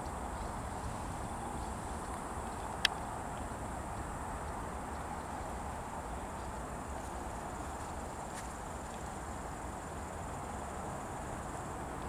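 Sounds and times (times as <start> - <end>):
insects chirring: 0.0 - 11.8.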